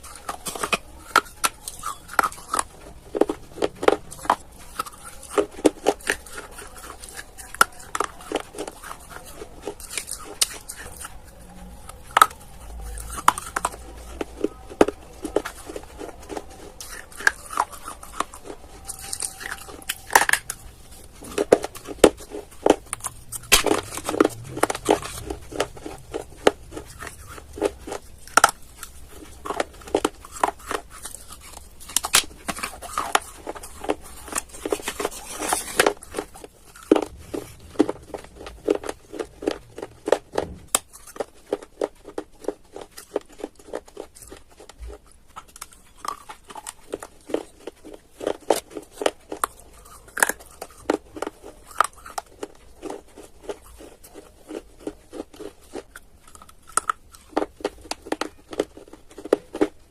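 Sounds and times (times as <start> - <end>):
clay crunching between teeth: 0.0 - 59.9.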